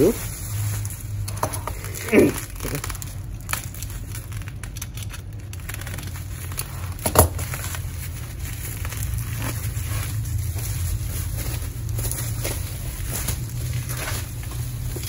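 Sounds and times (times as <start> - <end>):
bubble wrap crinkling and crackling: 0.0 - 15.0
packaging rustling: 0.0 - 15.0.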